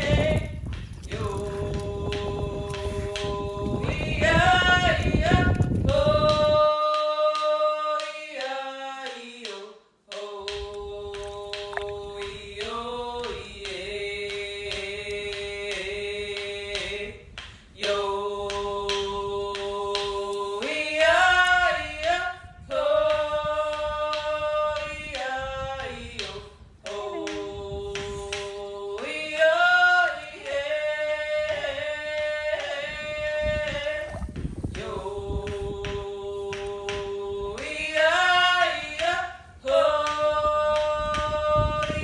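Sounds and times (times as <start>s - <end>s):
voices singing held notes: 0.0s - 42.0s.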